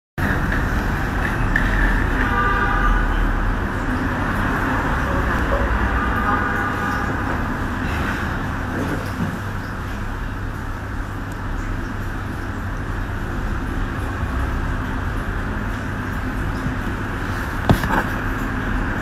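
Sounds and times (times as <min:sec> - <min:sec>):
loud background rumble: 0:00.2 - 0:19.0.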